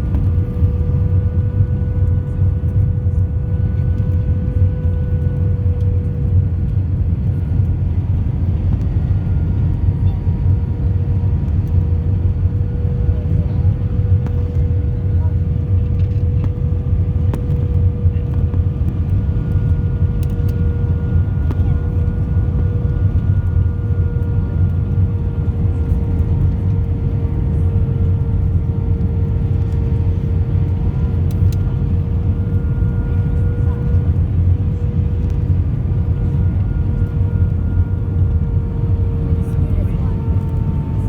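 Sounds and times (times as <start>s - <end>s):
jet engine and airflow rumble: 0.0s - 41.0s.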